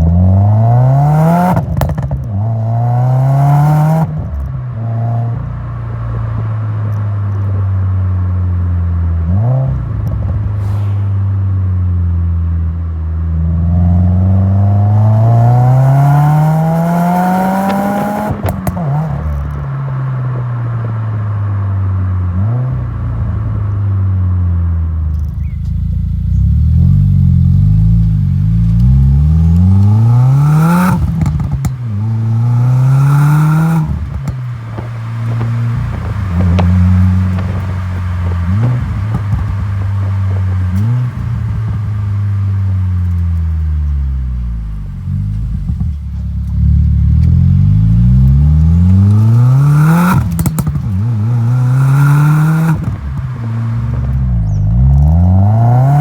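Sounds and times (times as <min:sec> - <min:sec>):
car engine accelerating hard: 0:00.0 - 0:56.0
exhaust pops and crackles: 0:00.0 - 0:56.0.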